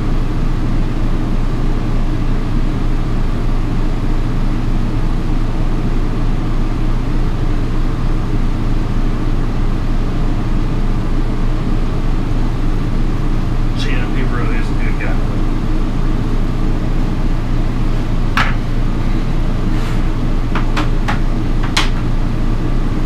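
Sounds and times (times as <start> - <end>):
machine humming: 0.0 - 23.0.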